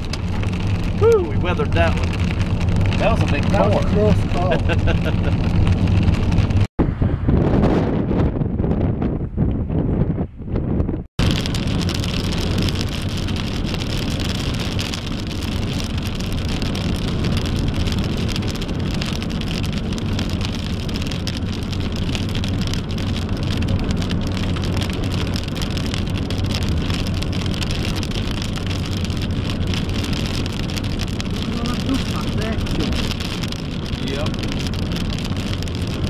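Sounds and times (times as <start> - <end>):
rain on car windshield and roof: 0.0 - 6.7, 11.1 - 36.0
road and engine noise: 0.0 - 36.0.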